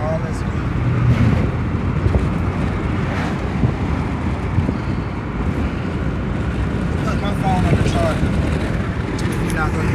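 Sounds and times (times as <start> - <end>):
car road noise: 0.0 - 9.9
wind rumble on microphone: 0.7 - 9.9.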